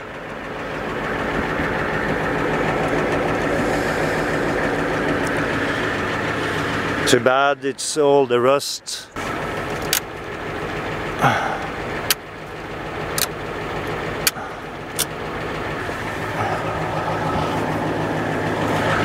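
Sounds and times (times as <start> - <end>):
van engine idling: 0.0 - 19.0.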